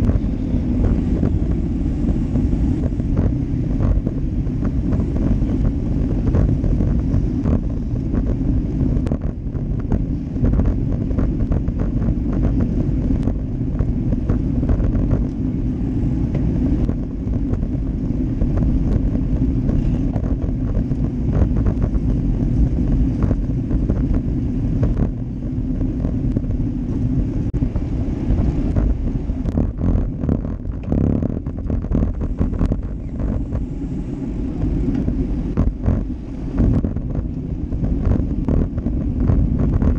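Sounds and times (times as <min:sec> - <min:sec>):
tyres rumbling on road: 0:00.0 - 0:39.9
wind buffeting microphone: 0:00.0 - 0:39.9.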